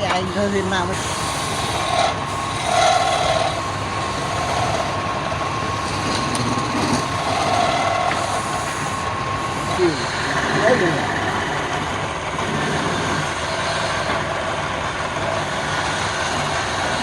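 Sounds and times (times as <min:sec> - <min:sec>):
tool grinding wood: 0:00.0 - 0:17.0
wood lathe whining: 0:00.0 - 0:17.0.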